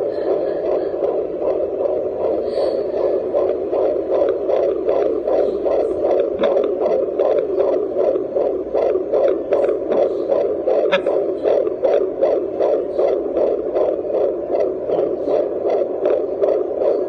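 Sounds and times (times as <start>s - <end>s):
fast whooshing heartbeat: 0.0s - 17.0s.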